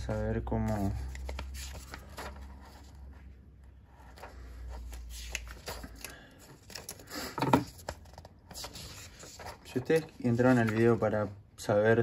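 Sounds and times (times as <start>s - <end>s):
paper pages turning: 0.6s - 3.1s, 3.9s - 11.2s.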